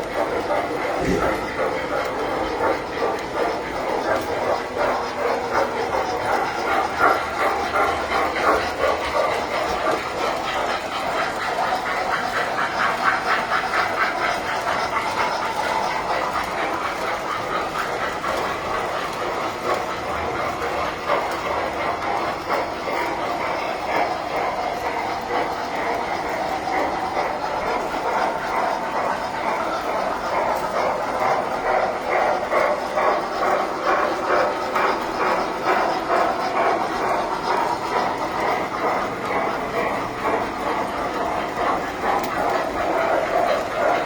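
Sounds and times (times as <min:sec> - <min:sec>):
toy train wheels rattling on track: 0:00.0 - 0:44.0.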